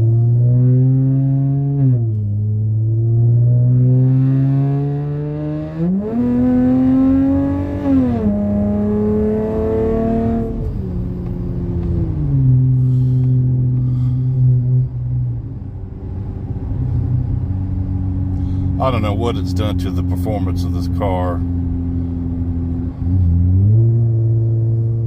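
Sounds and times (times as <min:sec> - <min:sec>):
car engine and exhaust revving: 0:00.0 - 0:25.0.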